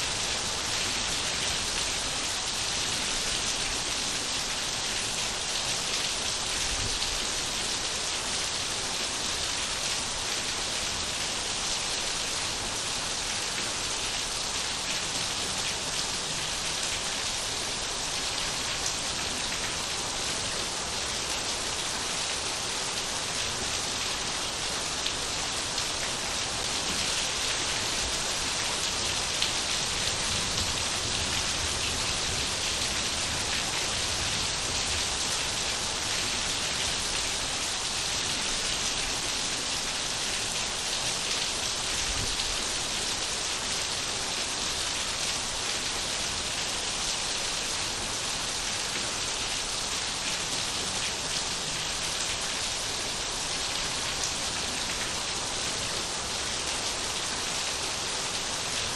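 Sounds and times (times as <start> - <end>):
rain pattering on surfaces: 0.1 - 58.9.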